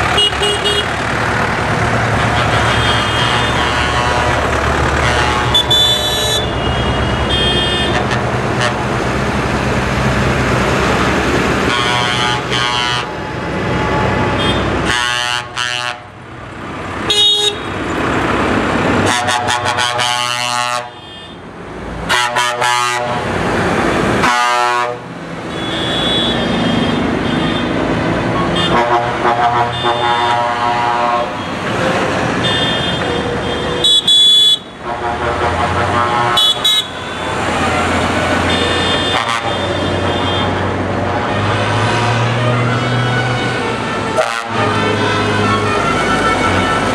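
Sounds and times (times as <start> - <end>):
tractor horns tooting: 0.0 - 1.1, 2.0 - 9.0, 11.6 - 16.2, 17.0 - 17.9, 19.0 - 23.4, 24.2 - 42.3, 43.4 - 46.9
tractor engines driving past: 0.0 - 46.9.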